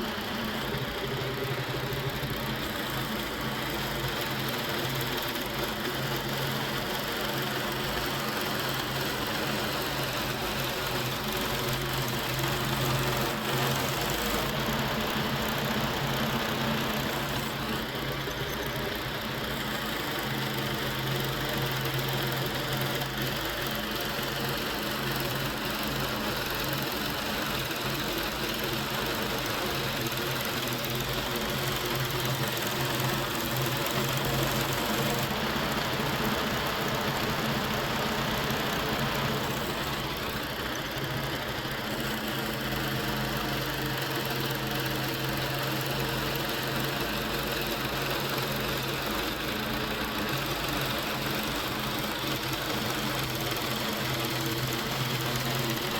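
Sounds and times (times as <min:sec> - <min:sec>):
band sawmill engine running: 0:00.0 - 0:55.9.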